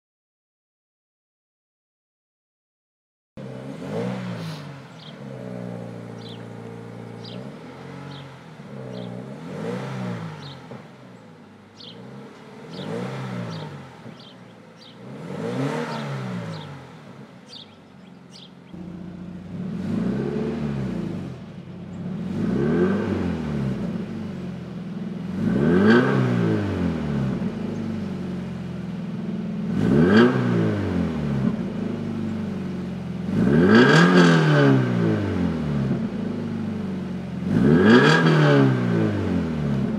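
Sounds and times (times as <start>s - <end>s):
car engine revving: 3.4s - 39.9s.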